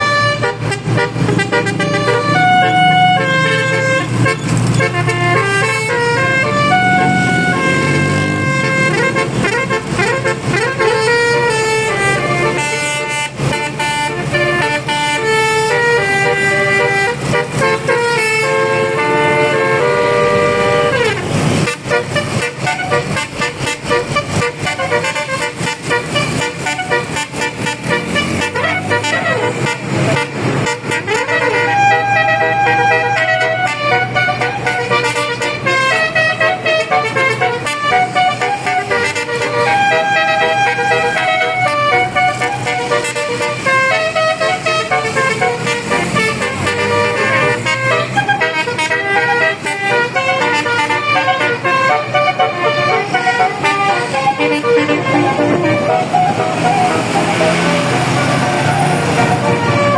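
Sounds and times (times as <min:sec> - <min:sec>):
musical air horn tune: 0:00.0 - 0:59.9.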